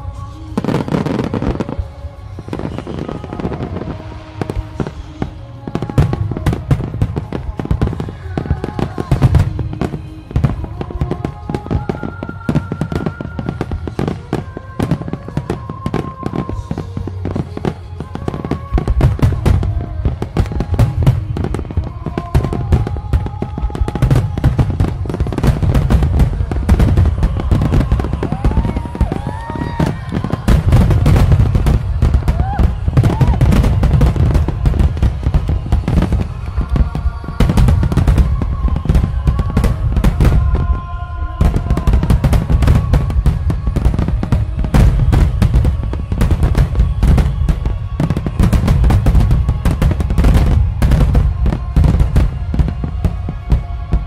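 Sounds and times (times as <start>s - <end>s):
fireworks crackling and booming: 0.0s - 54.0s
music playing: 0.0s - 54.0s.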